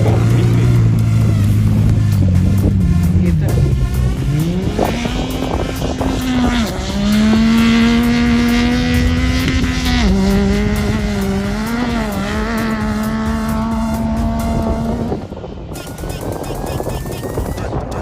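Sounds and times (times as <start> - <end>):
buggy engine running: 0.0 - 18.0.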